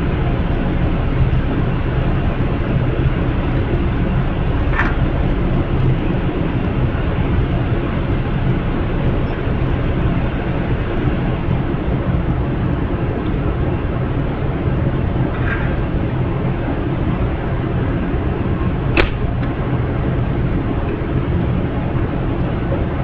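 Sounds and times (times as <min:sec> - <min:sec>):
idling diesel locomotive rumble: 0:00.0 - 0:23.0.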